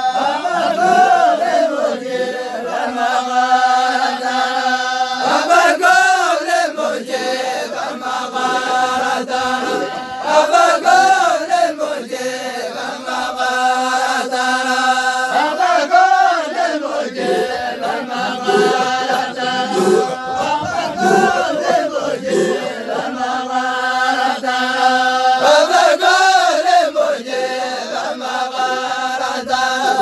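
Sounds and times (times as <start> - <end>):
group chanting in unison: 0.0 - 30.0.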